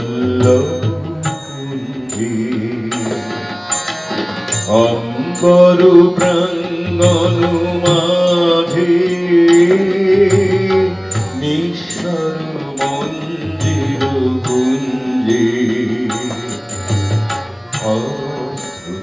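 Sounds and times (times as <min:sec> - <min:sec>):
harmonium melody: 0:00.0 - 0:19.0
tabla: 0:00.0 - 0:19.0.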